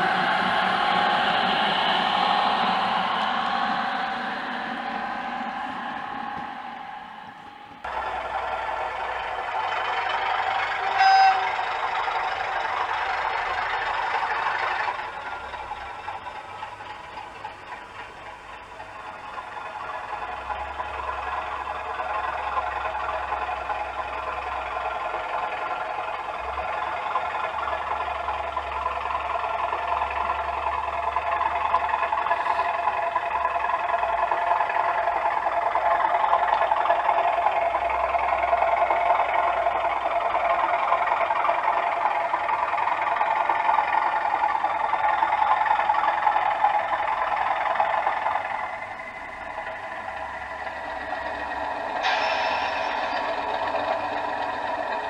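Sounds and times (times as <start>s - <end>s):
model locomotive engine sound: 0.0s - 55.0s.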